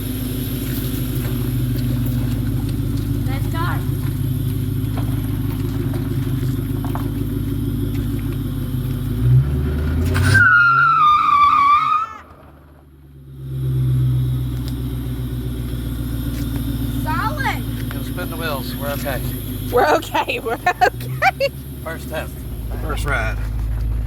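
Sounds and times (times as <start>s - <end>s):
car engine revving: 0.0s - 24.0s
tires squealing: 0.0s - 24.0s.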